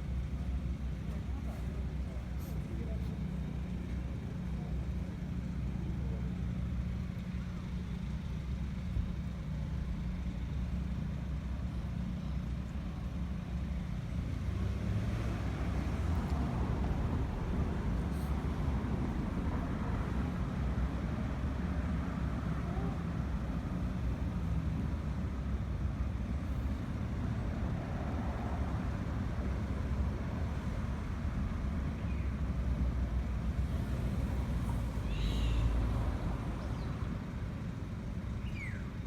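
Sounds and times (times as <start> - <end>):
low motor rumble: 0.0 - 39.0.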